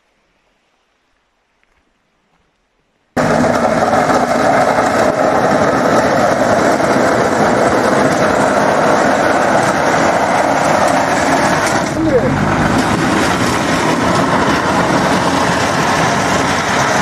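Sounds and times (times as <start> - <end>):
diesel engine running: 3.2 - 17.0.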